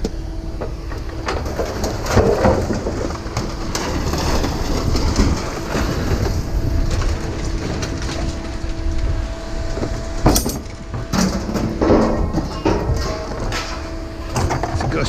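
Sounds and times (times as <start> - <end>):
trailer rattling: 0.0 - 15.0
vehicle engine rumble: 0.0 - 15.0.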